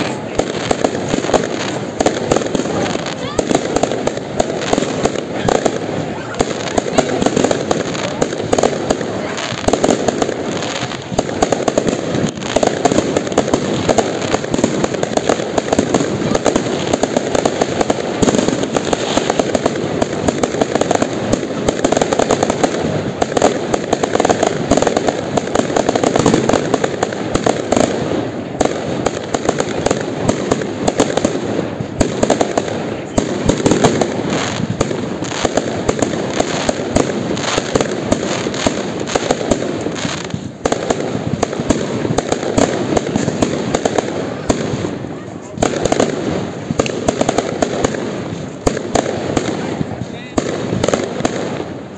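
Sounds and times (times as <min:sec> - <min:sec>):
fireworks shells bursting: 0:00.0 - 0:51.9.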